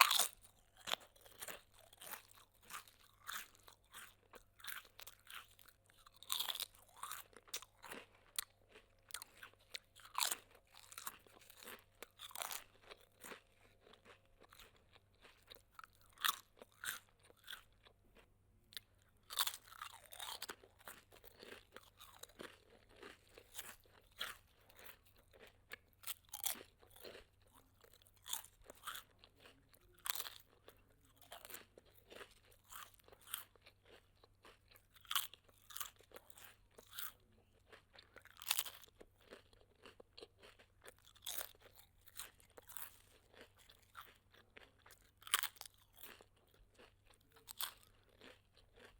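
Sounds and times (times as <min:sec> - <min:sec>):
chewing crunchy food: 0:00.0 - 0:48.9.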